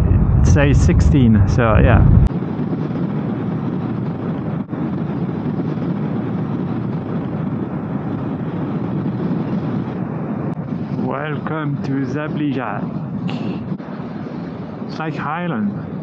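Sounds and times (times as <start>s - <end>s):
wind rush while riding: 0.0s - 16.0s.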